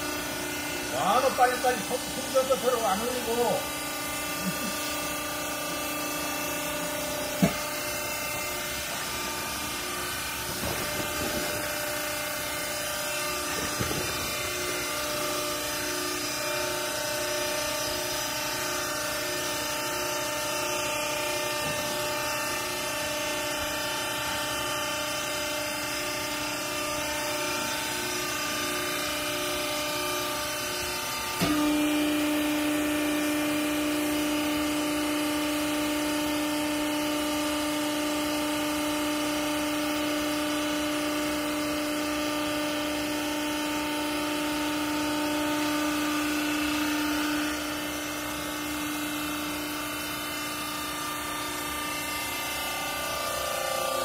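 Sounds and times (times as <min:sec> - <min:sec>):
hydraulic pump motor humming: 0:00.0 - 0:54.0.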